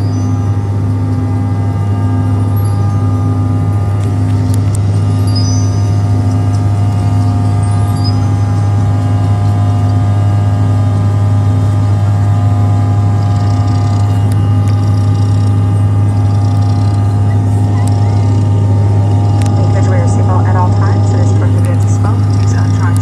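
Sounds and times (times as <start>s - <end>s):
engine whining tones: 0.0s - 23.0s
jet engines steady hum: 0.0s - 23.0s.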